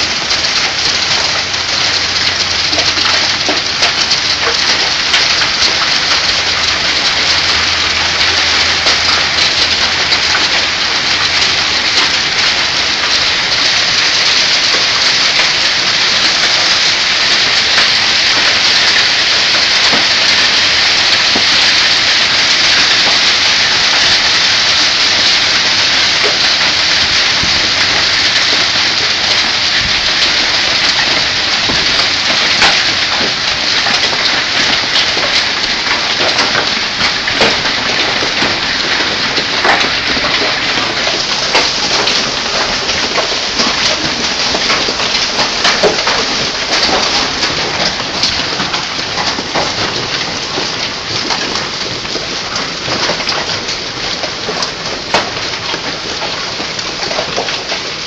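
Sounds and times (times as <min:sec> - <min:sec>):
hailstones ticking: 0:00.0 - 0:58.0
heavy rain hissing: 0:00.0 - 0:58.0.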